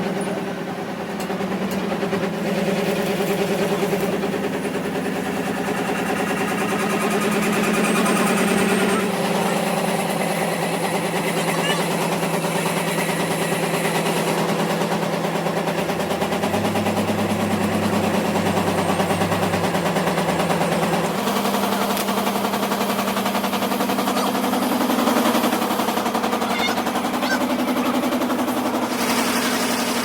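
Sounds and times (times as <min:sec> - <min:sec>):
engine running with fast pulsing: 0:00.0 - 0:30.0.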